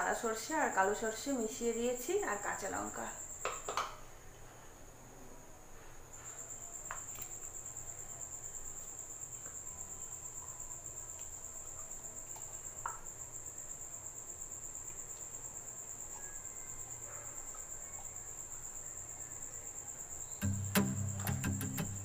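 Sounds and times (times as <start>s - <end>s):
cricket chirring: 0.0s - 4.7s, 5.7s - 22.0s.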